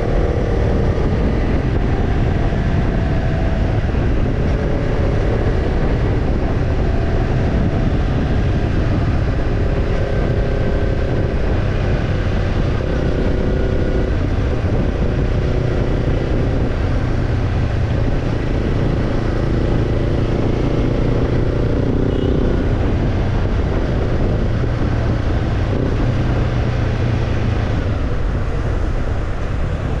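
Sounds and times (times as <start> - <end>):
motorcycle engine running: 0.0 - 30.0
steady rushing noise: 0.0 - 30.0.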